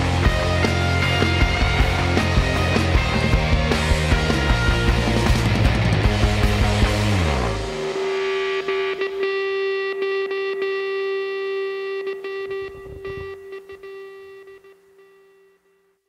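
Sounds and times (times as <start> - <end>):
distorted electric guitar chord: 0.0 - 15.2.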